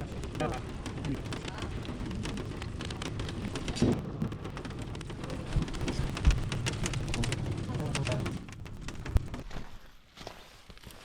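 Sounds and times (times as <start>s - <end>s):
low rumble: 0.0s - 9.8s
water dripping and pattering: 0.0s - 11.0s.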